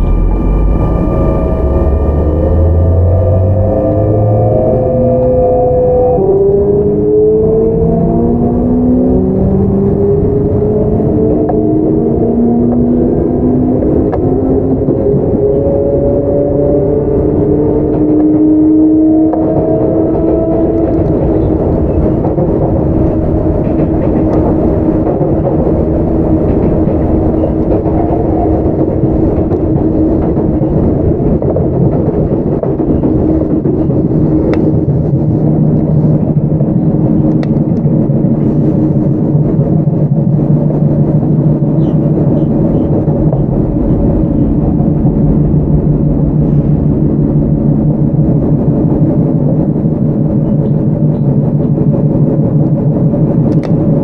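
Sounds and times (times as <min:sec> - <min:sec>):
electric train motor drone: 0:00.0 - 0:54.0
wheels rumbling on rail: 0:00.0 - 0:54.0.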